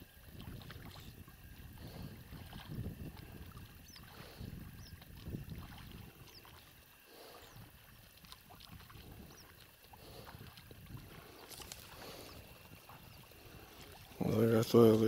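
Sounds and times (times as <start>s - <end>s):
paddles splashing in water: 0.0s - 15.0s.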